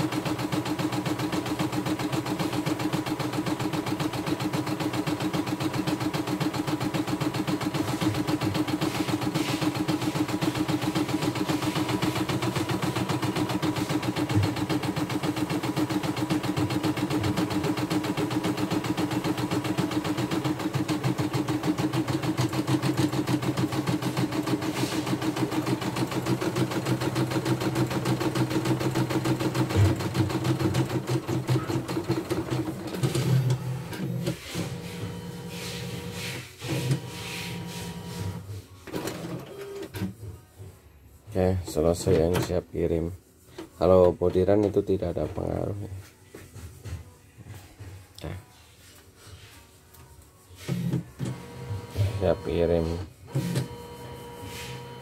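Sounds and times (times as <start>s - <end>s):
embroidery machine stitching: 0.0s - 40.0s, 50.9s - 55.0s.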